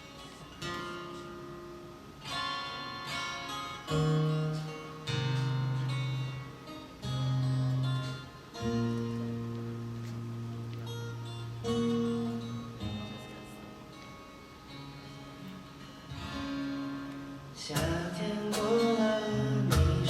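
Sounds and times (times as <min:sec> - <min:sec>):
strummed acoustic guitar chords: 0:00.0 - 0:20.0.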